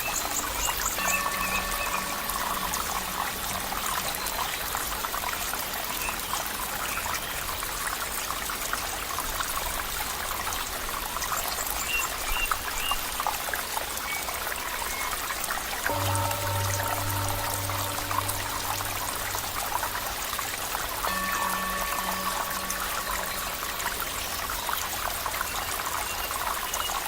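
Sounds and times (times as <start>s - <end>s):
water trickling and bubbling: 0.0s - 27.0s.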